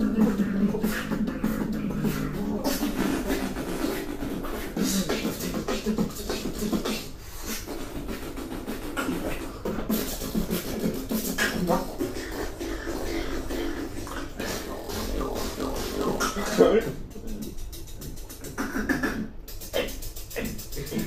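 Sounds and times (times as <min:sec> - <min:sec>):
beatboxing: 0:00.0 - 0:21.0
pitched vocal line: 0:00.0 - 0:21.0.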